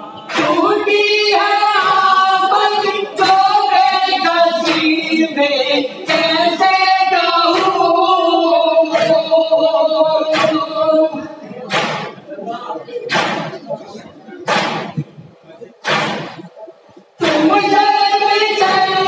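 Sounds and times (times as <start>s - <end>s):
rhythmic chest-beating slaps: 0.2s - 5.4s, 6.0s - 12.3s, 13.0s - 19.0s.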